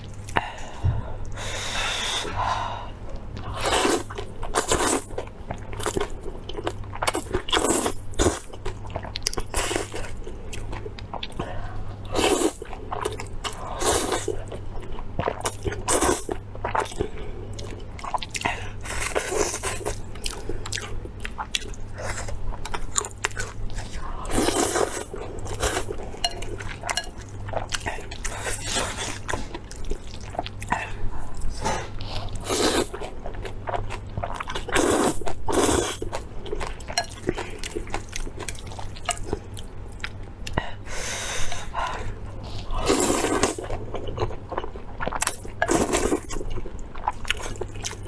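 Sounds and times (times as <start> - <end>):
person chewing crunchy food: 3.0 - 48.0.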